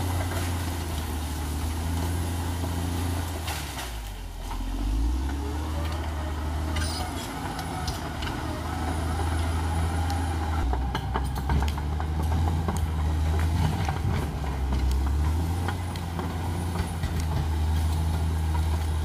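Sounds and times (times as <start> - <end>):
bulldozer diesel engine revving: 0.0 - 19.0.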